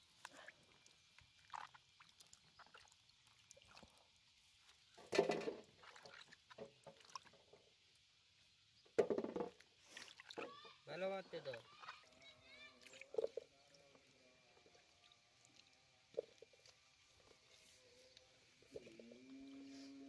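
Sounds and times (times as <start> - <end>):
water sloshing and splashing: 0.0 - 8.0, 8.9 - 17.5.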